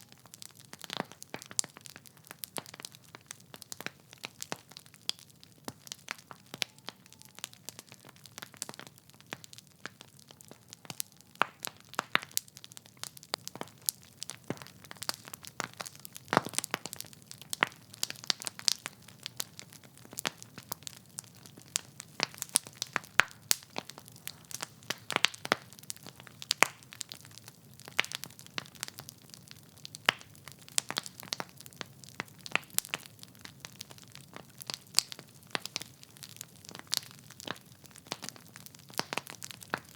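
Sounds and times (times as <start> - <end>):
fireplace logs crackling: 0.2 - 39.9.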